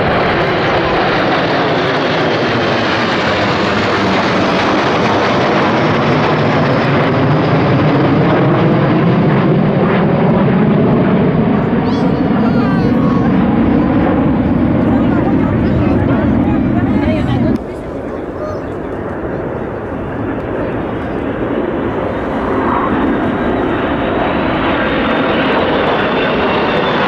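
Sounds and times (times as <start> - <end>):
aircraft flying over: 0.0 - 27.0.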